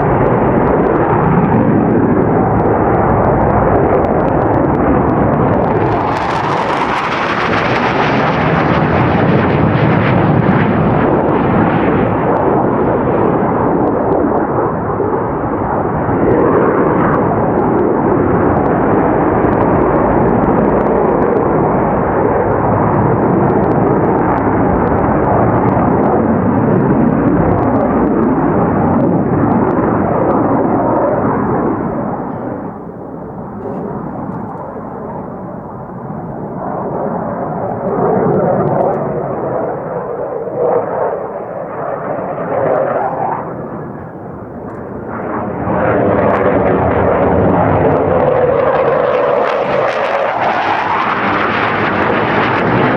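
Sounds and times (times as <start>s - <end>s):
jet engine roar: 0.0s - 52.9s.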